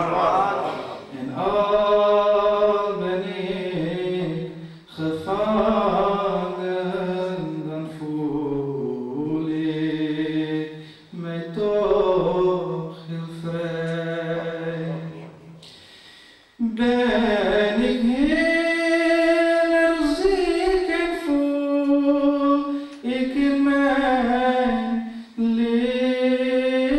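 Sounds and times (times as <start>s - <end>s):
man singing unaccompanied: 1.3s - 15.2s, 16.6s - 26.9s.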